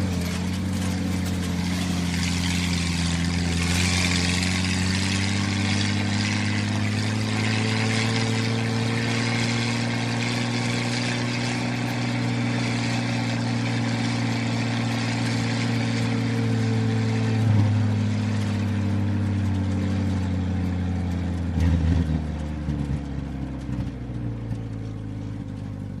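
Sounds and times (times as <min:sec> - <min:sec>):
car engine running: 0:00.0 - 0:26.0
engine knock: 0:00.0 - 0:26.0.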